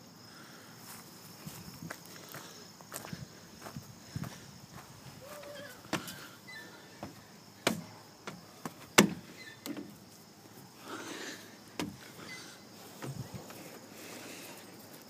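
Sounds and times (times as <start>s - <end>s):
footsteps on metal deck: 1.4s - 10.7s, 11.7s - 15.0s.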